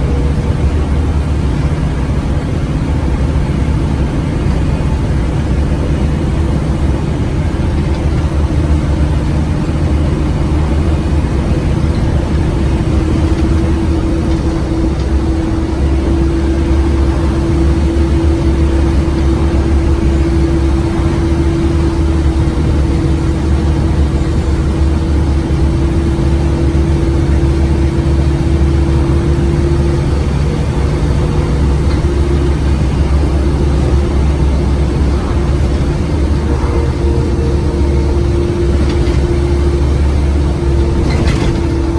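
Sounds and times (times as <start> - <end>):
bus engine drone: 0.0 - 41.9
steady whine: 0.0 - 41.9.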